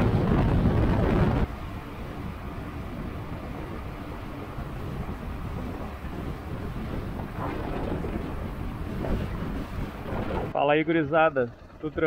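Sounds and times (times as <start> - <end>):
motorcycle wind and road noise: 0.0 - 12.0.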